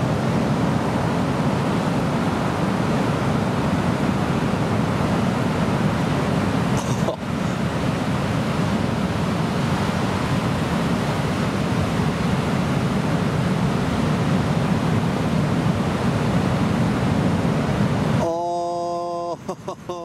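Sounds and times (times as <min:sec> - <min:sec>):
ocean surf breaking: 0:00.0 - 0:20.0.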